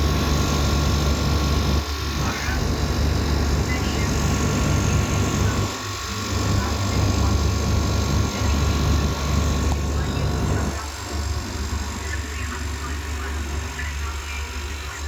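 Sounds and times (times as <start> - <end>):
air conditioner hum and fan: 0.0 - 15.0.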